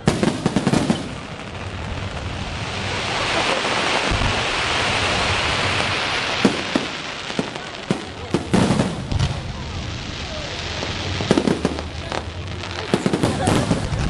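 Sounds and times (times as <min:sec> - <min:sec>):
firework bangs: 0:00.0 - 0:14.0
fireworks crackling hiss: 0:00.0 - 0:14.0.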